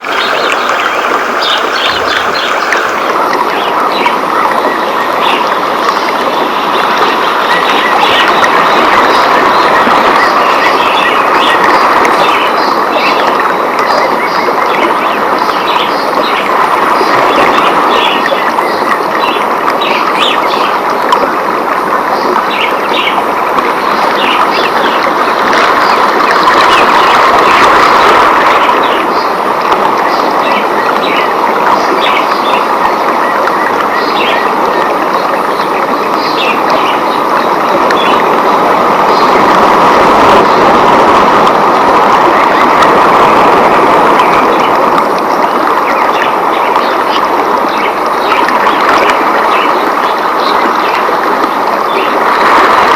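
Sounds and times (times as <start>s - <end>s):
loud rush of rain: 0.0s - 52.9s.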